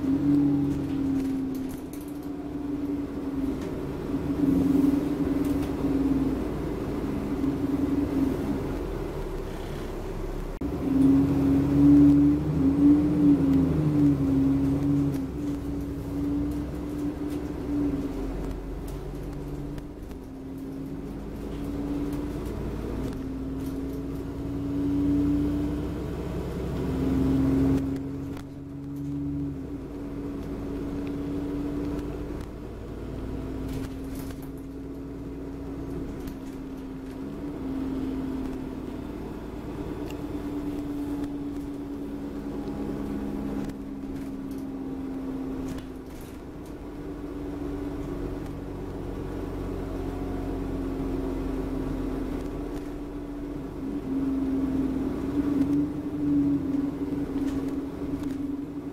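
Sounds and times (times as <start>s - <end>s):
bus engine droning and whining: 0.0s - 58.9s.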